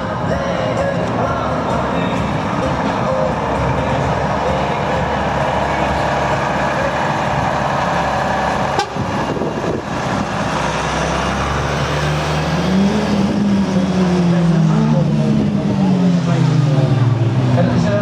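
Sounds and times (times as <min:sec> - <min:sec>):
trucks driving past: 0:00.0 - 0:18.0.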